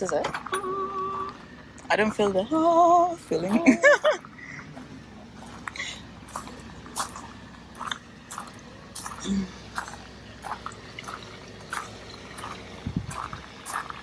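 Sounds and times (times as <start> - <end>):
footsteps on garden path: 0.0 - 14.0.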